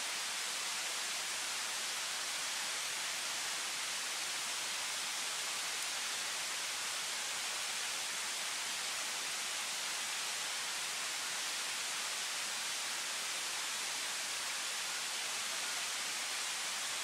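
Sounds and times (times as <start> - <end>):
night-time outdoor hiss: 0.0 - 17.0.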